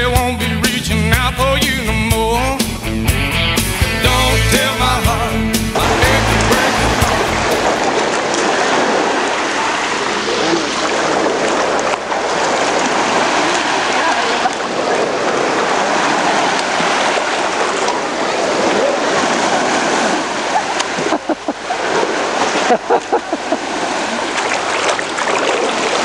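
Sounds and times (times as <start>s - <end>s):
water splashing: 4.1s - 26.0s
water rushing over rocks: 4.4s - 26.0s.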